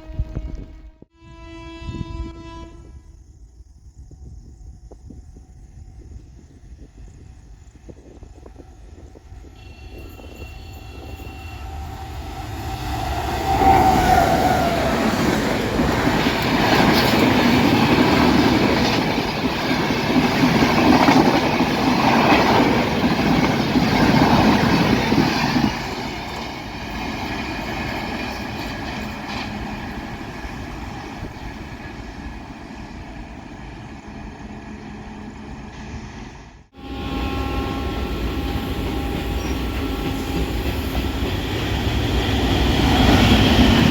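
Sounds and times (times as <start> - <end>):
train passing at speed: 0.0 - 43.9
wheel and track noise: 6.1 - 43.9.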